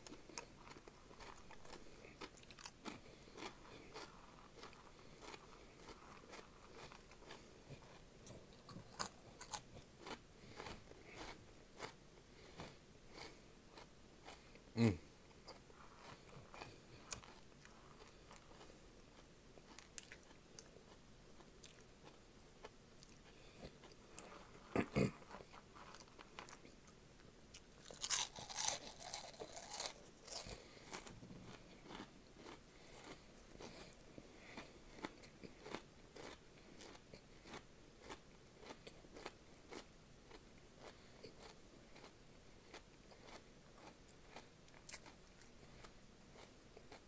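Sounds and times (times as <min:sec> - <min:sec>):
person chewing crunchy snacks: 0:00.0 - 0:47.0.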